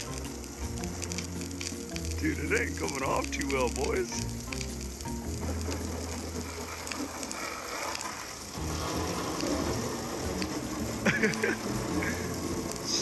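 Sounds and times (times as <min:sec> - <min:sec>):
water jet spraying and splashing: 0:00.0 - 0:13.0.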